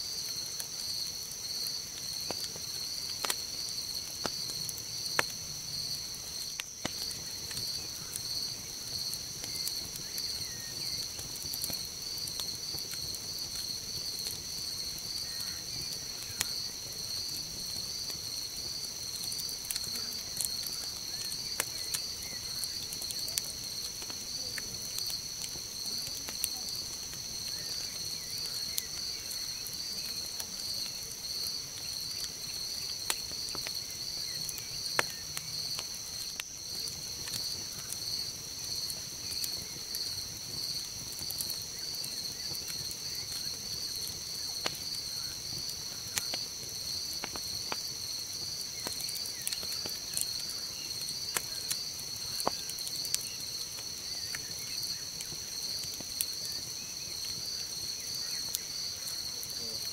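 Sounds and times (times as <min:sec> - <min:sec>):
campfire crackling and popping: 0:00.0 - 0:59.9
night insects chirping: 0:00.0 - 0:59.9.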